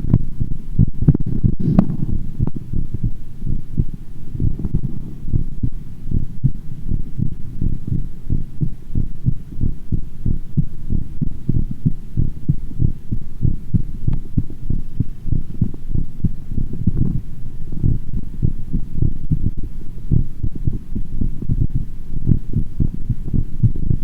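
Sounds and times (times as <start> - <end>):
fast heartbeat thumps: 0.0 - 24.0.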